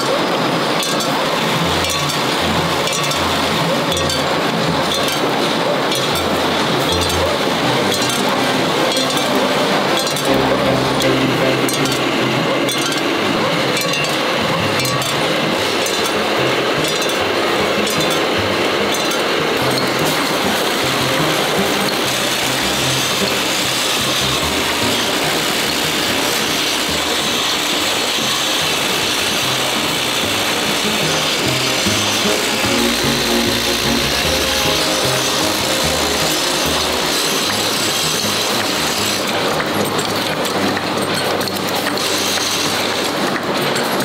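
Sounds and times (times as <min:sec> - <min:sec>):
screw-making machinery running: 0:00.0 - 0:44.0.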